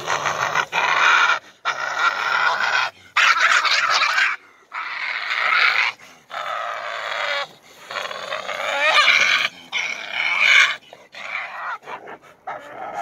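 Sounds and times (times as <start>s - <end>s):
harsh rasping animal sounds: 0.0s - 13.0s.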